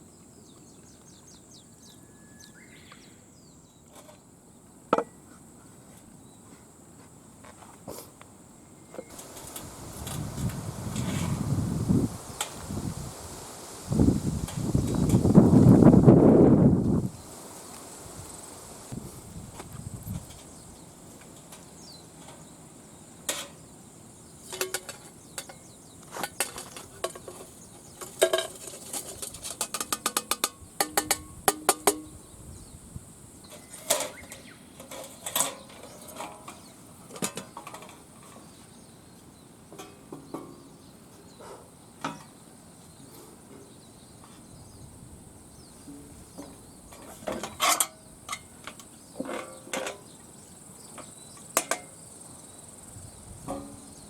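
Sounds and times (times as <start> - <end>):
crickets chirping: 0.0 - 39.7, 40.5 - 54.0.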